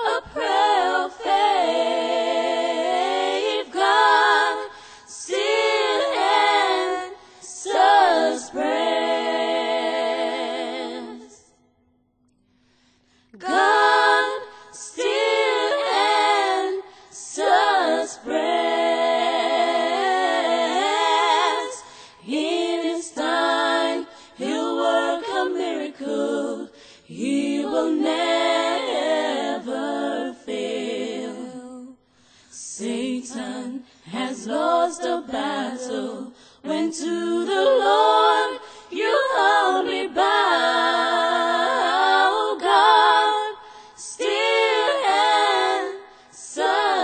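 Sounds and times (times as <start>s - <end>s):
women singing in harmony: 0.0s - 11.7s, 13.3s - 47.0s.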